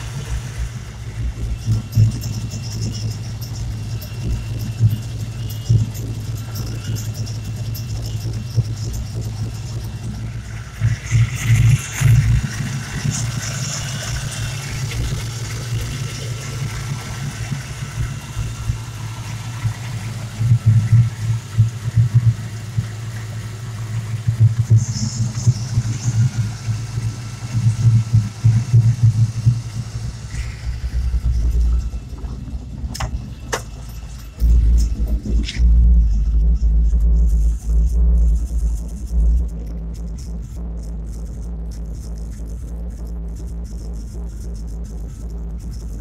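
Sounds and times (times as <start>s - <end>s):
car engine idling unevenly: 0.0s - 46.0s
faint high whine: 0.0s - 46.0s.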